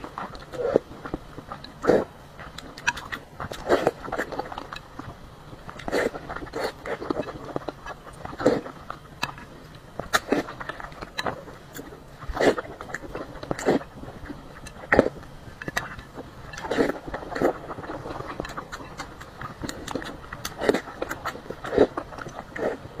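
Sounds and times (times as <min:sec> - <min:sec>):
chewing: 0:00.0 - 0:23.0
slurping broth: 0:00.2 - 0:04.8, 0:05.7 - 0:09.4, 0:10.1 - 0:23.0.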